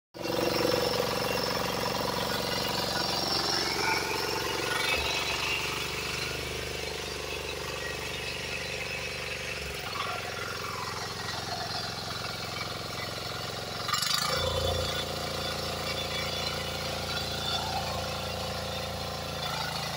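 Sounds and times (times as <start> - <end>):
diesel engine running under load: 0.2 - 19.9.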